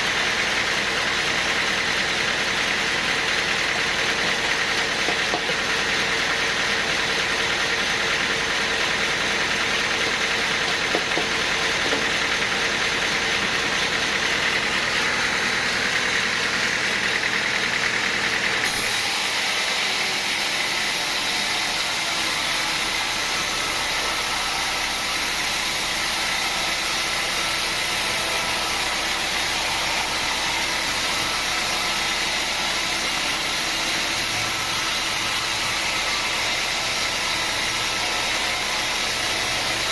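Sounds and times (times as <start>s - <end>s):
engine-driven machinery running: 0.0s - 39.9s.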